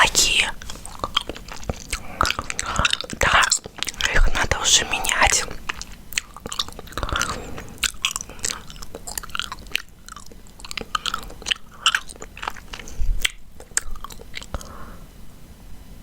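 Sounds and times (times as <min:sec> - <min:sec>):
gum chewing mouth clicks: 0:00.0 - 0:14.7.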